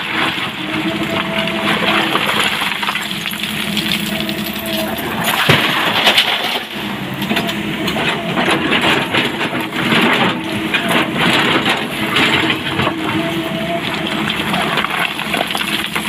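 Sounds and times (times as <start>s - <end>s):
excavator diesel engine running: 0.0s - 16.0s
stone crunching and clattering: 1.7s - 13.0s, 14.1s - 16.0s.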